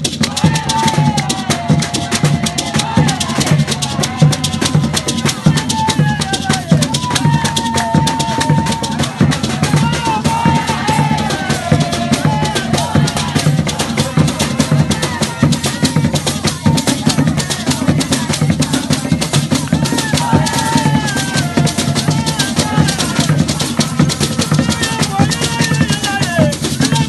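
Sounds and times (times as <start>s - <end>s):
standing drums playing dance rhythm: 0.0s - 27.0s.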